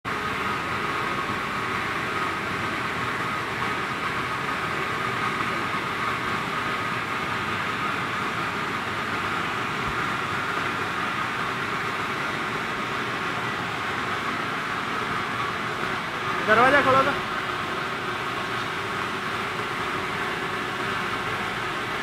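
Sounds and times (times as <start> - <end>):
steady machinery noise: 0.1 - 22.0.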